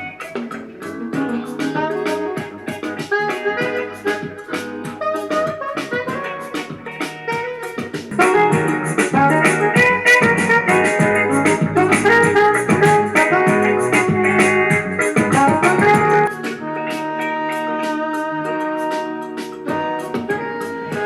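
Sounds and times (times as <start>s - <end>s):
music from portable speaker: 0.0s - 21.0s.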